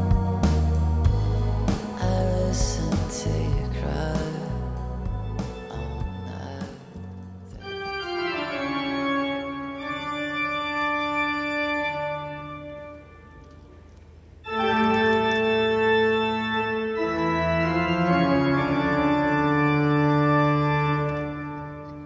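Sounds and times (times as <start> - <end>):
pipe organ chords: 0.0 - 22.0.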